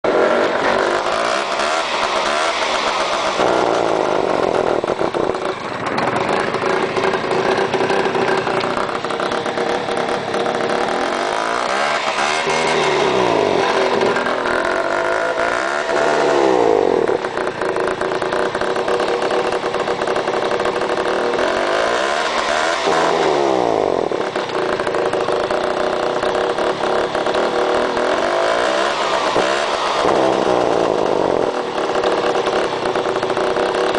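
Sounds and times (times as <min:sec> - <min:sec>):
scooter engine revving: 0:00.0 - 0:33.9.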